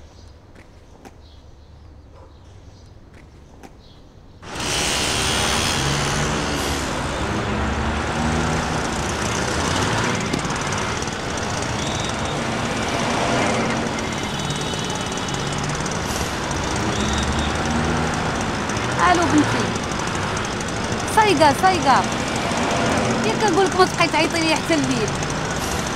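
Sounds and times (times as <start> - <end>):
city traffic: 0.0 - 25.9
quiet street ambience: 0.0 - 25.9
moped engine running: 4.4 - 25.9.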